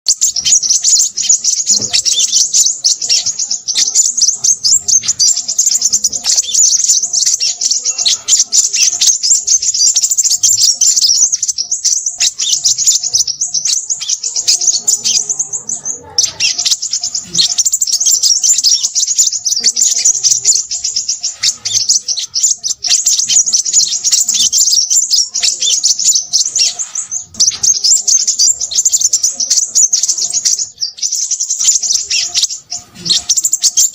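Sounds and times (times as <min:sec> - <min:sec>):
bird chirps and trills: 0:00.1 - 0:33.9.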